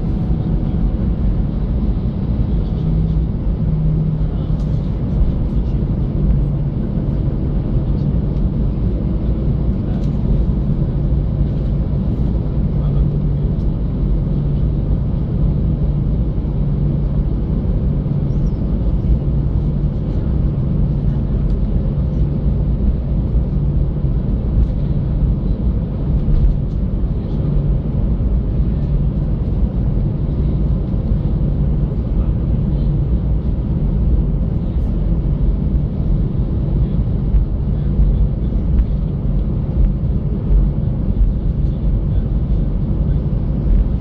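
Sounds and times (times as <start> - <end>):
jet engines rumbling in cabin: 0.0 - 44.0.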